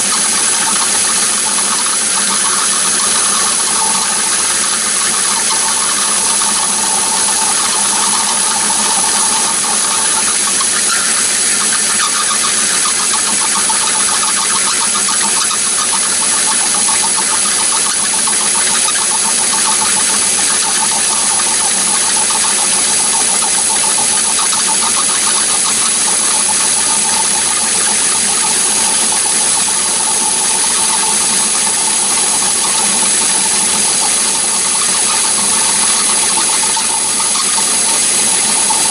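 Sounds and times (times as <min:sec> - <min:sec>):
lathe running: 0:00.0 - 0:38.9
steady high whine: 0:00.0 - 0:38.9.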